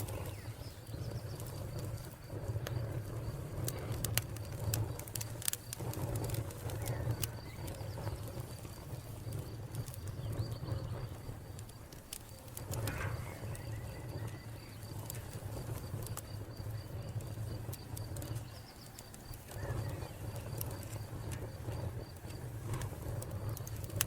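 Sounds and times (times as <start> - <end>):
cricket chirping: 0.0 - 24.0
wood fire crackling: 0.0 - 24.0.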